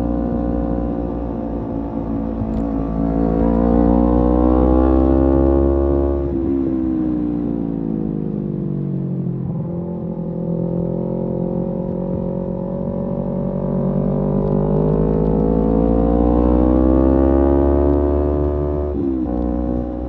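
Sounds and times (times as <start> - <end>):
motorcycle engine revving: 0.0 - 7.0, 9.6 - 20.0.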